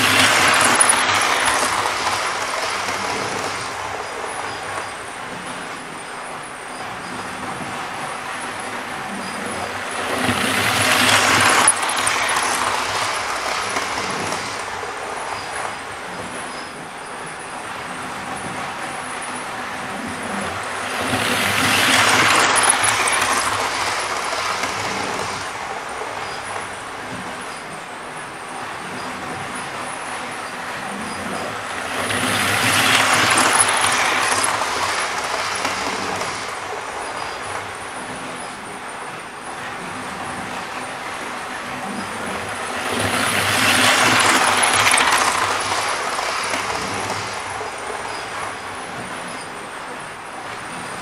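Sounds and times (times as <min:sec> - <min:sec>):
model train rumbling rattle: 0:00.0 - 0:51.0.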